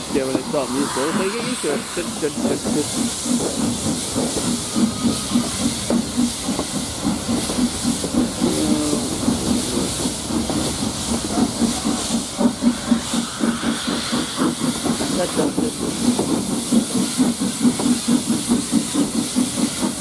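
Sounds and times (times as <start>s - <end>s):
steam hissing: 0.0s - 20.0s
steam locomotive exhaust beats: 0.0s - 20.0s.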